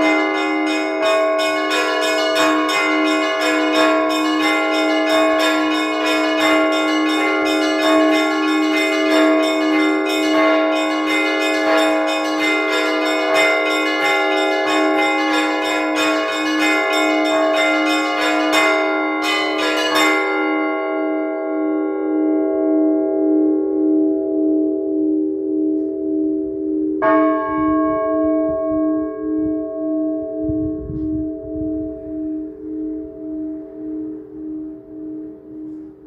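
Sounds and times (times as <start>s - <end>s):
church bells chiming: 0.0s - 36.0s.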